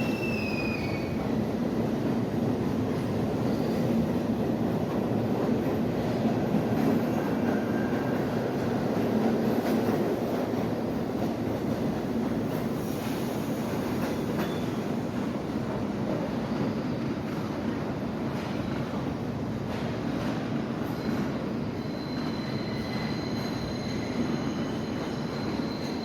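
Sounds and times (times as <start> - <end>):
subway train wheels on rails: 0.0 - 26.0.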